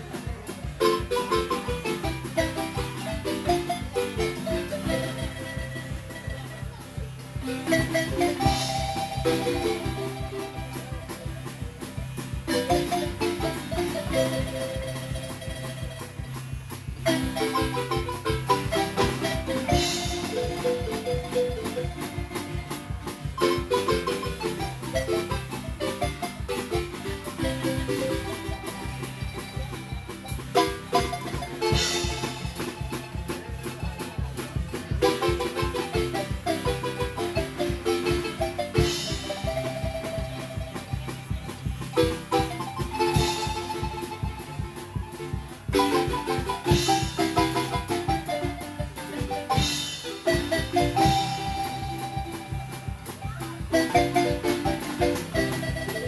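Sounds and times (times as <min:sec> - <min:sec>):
low bass beat: 0:00.0 - 0:56.0
marimba band playing dance tune: 0:00.0 - 0:56.0.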